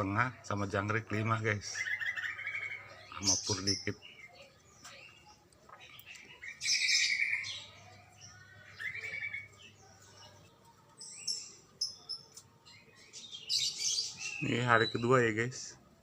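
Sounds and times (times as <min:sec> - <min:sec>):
thin high bird chirps: 0:01.7 - 0:15.3.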